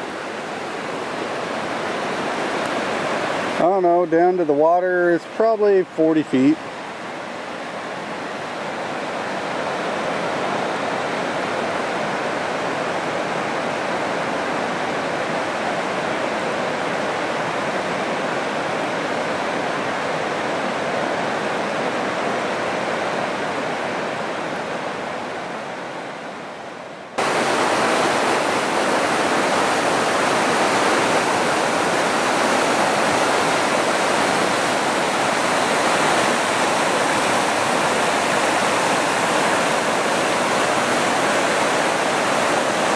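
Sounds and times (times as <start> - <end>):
close rapids: 0.0 - 42.9
river water rushing: 0.0 - 42.9.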